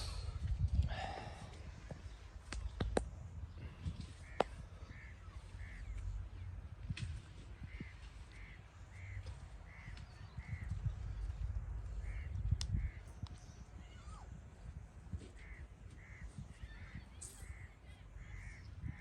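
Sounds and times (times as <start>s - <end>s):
low steady rumble: 0.0s - 16.2s.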